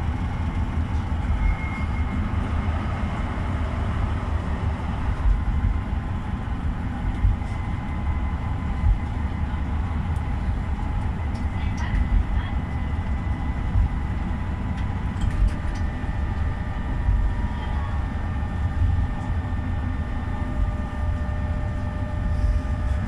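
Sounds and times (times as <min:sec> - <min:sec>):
tram rumbling along track: 0:00.0 - 0:23.0.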